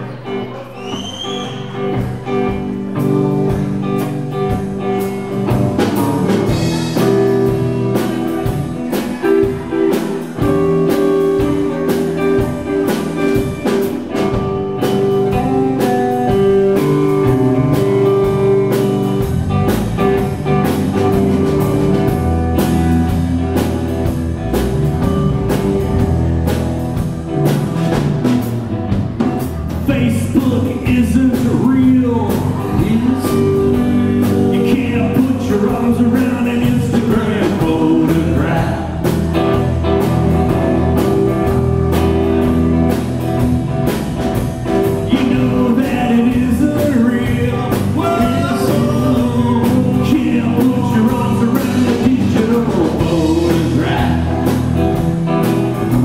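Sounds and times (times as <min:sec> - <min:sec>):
electric bass: 0:00.0 - 0:56.0
electric guitar: 0:00.0 - 0:56.0.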